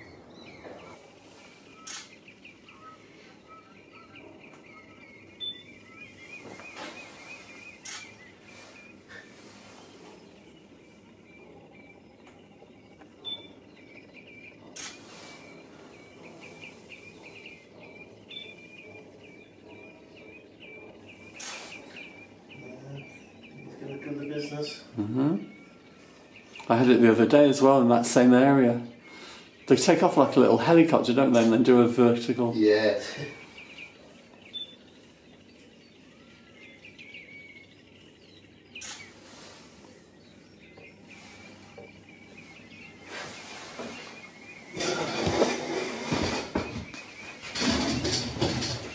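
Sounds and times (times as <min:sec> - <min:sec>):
bird piping call: 0:00.0 - 0:27.2, 0:27.8 - 0:47.8
outdoor background hiss: 0:00.0 - 0:48.9.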